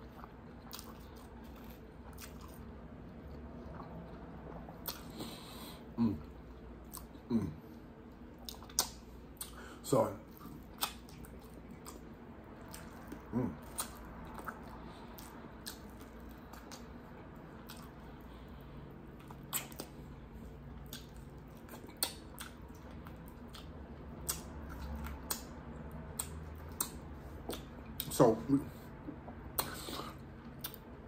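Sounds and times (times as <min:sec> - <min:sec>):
chewing and mouth smacks: 0:00.0 - 0:05.5, 0:06.2 - 0:07.3, 0:08.1 - 0:31.0.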